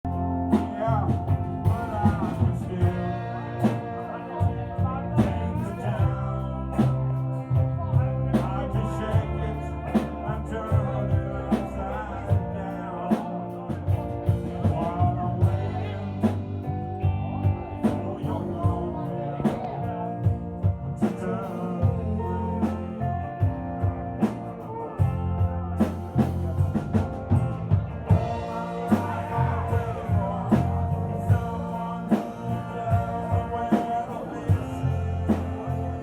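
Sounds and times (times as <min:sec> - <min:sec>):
drums keeping steady beat: 0:00.0 - 0:36.0
live rock band playing: 0:00.0 - 0:36.0
sliding lead guitar line: 0:00.0 - 0:36.0.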